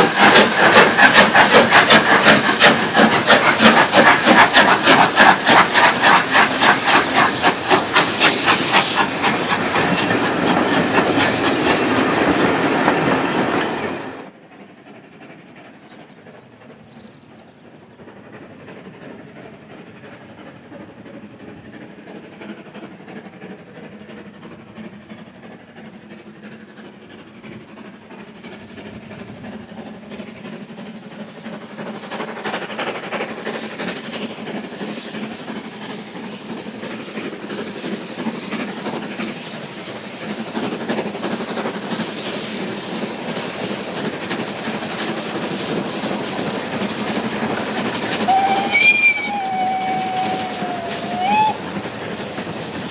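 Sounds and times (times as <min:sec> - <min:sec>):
steam locomotive exhaust: 0:00.0 - 0:14.4, 0:16.0 - 0:52.9
train wheels on rails: 0:00.0 - 0:52.9.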